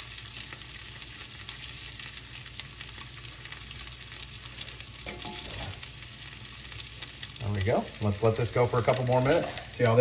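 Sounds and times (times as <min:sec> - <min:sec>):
food sizzling in fat: 0:00.0 - 0:10.0.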